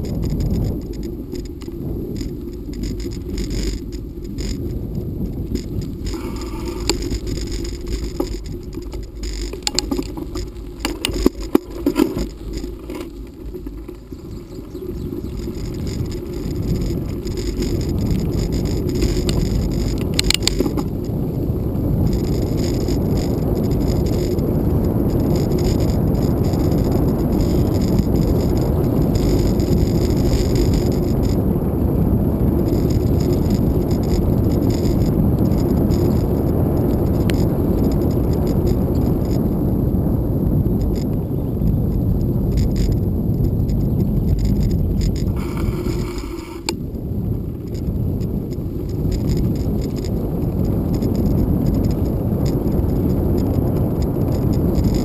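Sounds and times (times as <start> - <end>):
bicycle rattling over bumps: 0.0 - 55.0
wind noise on microphone: 0.0 - 55.0.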